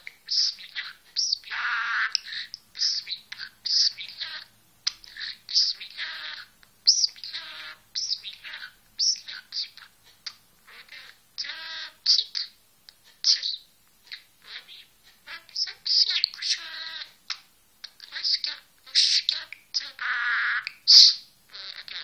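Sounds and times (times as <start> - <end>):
budgerigar chattering: 0.2 - 12.6, 13.2 - 22.0.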